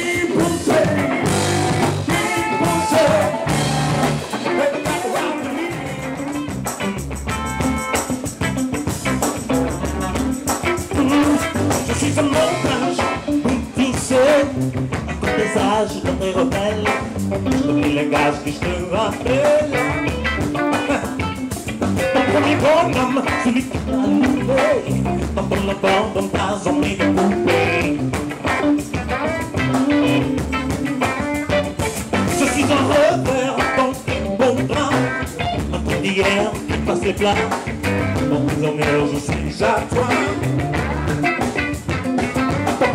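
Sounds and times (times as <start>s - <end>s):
live funk band playing: 0.0s - 42.9s.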